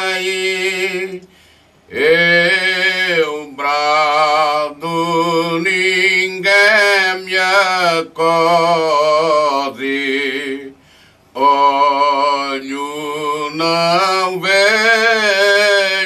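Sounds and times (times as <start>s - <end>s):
male choir singing unaccompanied: 1.9s - 10.8s, 11.4s - 16.0s.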